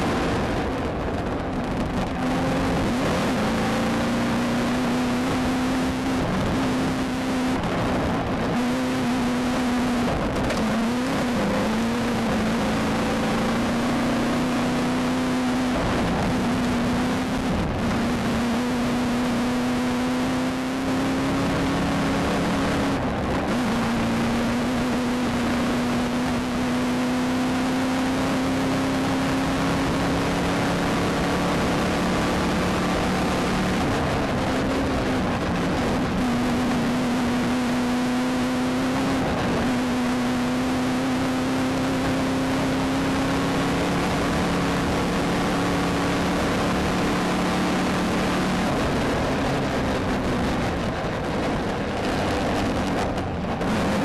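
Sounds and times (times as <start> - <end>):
race car engine revving hard: 0.0 - 54.0.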